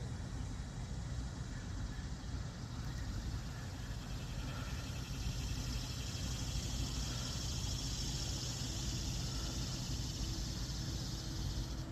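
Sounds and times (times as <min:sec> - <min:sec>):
insects buzzing: 0:00.8 - 0:11.9.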